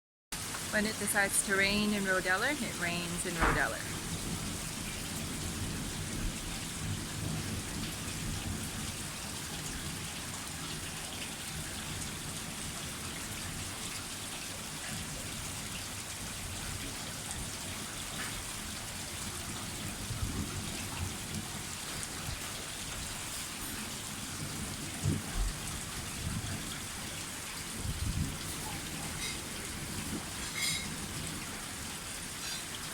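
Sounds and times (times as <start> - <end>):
heavy rain hissing: 0.4 - 32.9.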